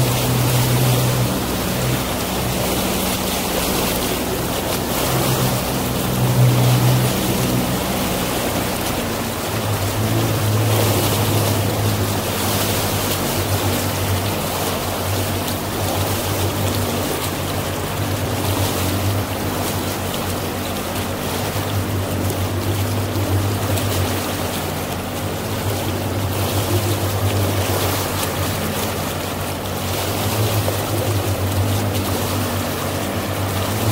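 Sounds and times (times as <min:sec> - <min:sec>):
boat motor humming: 0:00.0 - 0:33.9
water rushing: 0:00.0 - 0:33.9.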